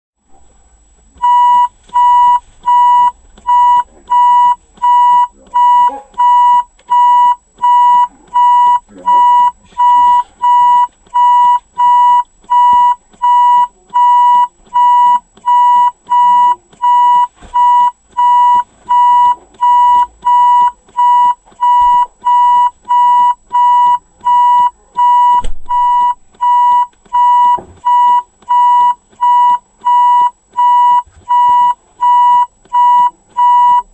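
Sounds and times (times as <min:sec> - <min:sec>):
reverse warning beeps: 0:01.2 - 0:33.9.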